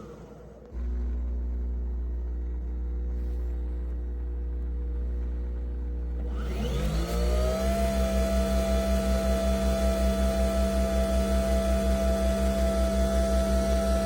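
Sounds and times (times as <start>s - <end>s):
coffee machine motor hum: 0.0s - 14.0s.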